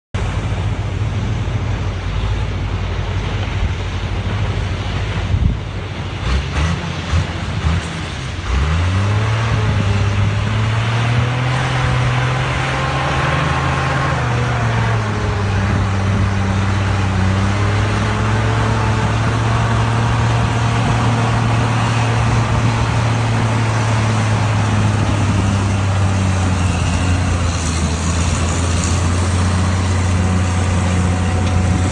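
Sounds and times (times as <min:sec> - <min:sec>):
heavy engine revving: 0:00.2 - 0:31.9.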